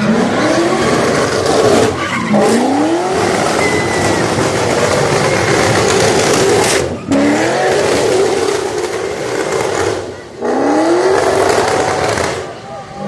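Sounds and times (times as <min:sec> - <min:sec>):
car engine revving near redline: 0:00.0 - 0:13.0
tyres spinning and squealing: 0:00.0 - 0:13.0.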